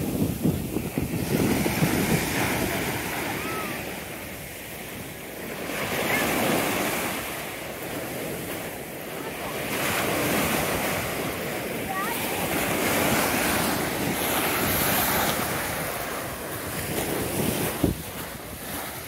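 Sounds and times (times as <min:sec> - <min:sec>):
waves washing over sand and pebbles: 0:00.0 - 0:19.0.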